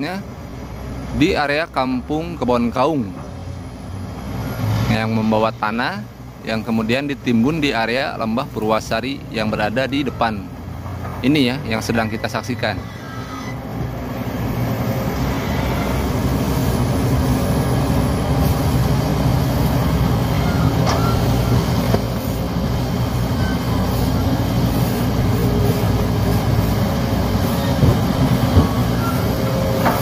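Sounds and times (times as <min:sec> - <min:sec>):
heavy diesel machinery rumbling: 0:00.0 - 0:30.0.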